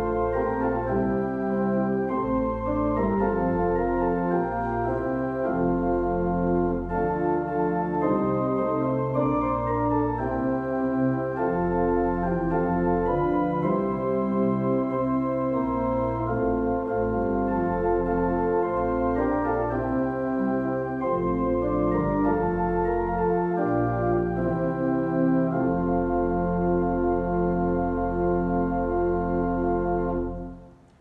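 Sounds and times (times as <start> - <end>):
organ playing a hymn: 0.0 - 31.0.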